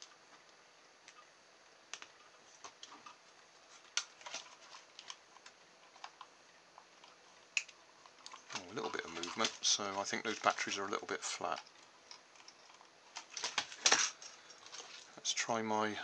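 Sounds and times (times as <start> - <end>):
plastic toy being handled: 1.9 - 15.2.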